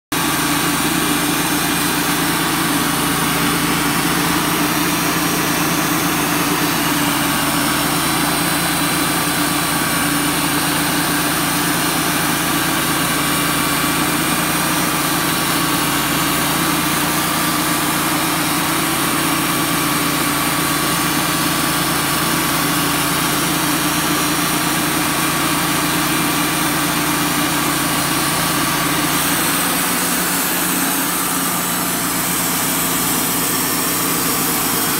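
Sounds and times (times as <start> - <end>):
band sawmill cutting wood: 0.1 - 34.9.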